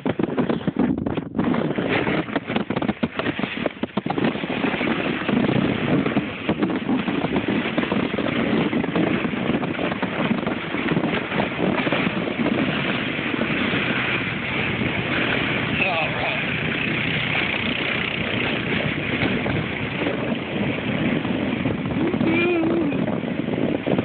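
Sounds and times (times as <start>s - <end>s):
plastic sled scraping over snow: 0.0s - 24.0s.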